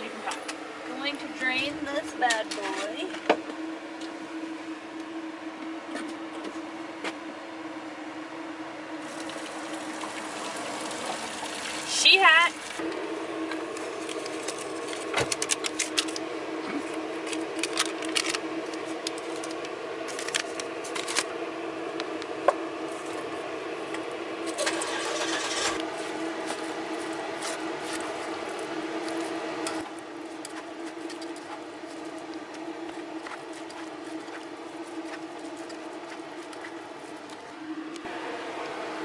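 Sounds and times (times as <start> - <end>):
steady motor hum: 0.0 - 39.0.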